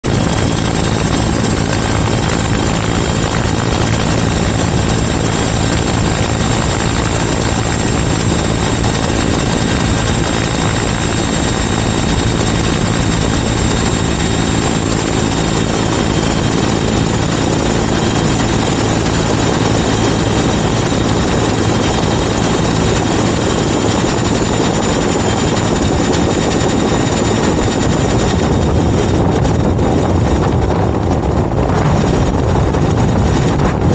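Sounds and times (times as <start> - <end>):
helicopter rotor and engine: 0.0 - 33.9
low hum: 0.0 - 33.9.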